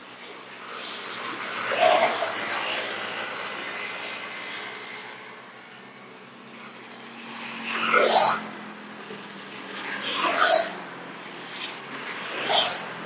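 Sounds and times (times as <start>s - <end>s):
motorbikes passing: 0.0s - 13.0s.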